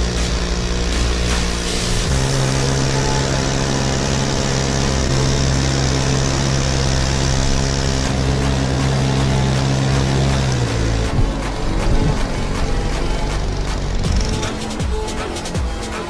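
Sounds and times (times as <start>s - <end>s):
outboard motor running: 0.0s - 15.9s.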